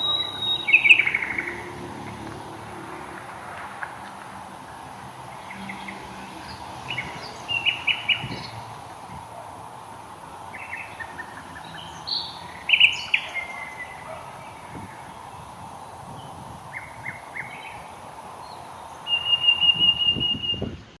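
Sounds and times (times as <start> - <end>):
birds chirping and trilling: 0.0 - 3.0, 4.7 - 20.7
steady background hiss: 3.3 - 20.4.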